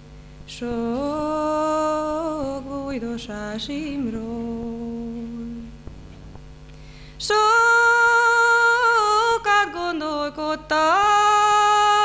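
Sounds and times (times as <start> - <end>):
woman singing unaccompanied: 0.5 - 5.9, 7.2 - 12.0.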